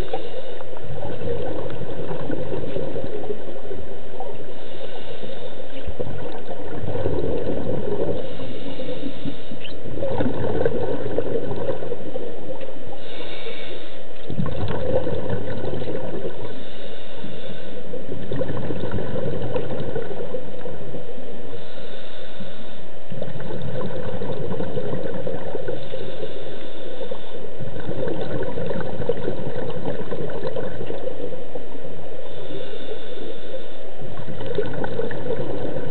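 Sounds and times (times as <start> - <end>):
regulator bubbles gurgling: 0.0 - 13.5, 14.1 - 16.8, 17.8 - 21.9, 23.0 - 35.9.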